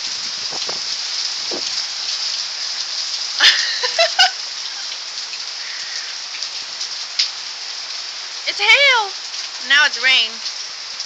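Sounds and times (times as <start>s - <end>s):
hail and rain falling: 0.0s - 11.0s.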